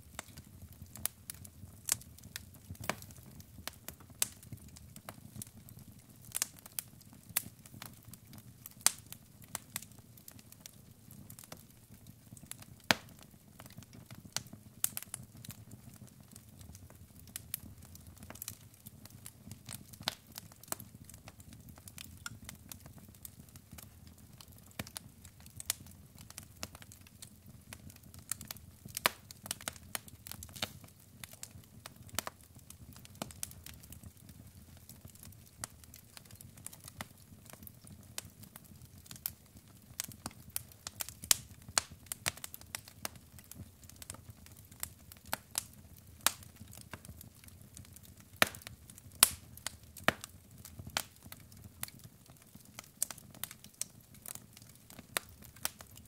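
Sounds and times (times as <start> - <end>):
logs crackling and popping in fireplace: 0.0 - 56.0.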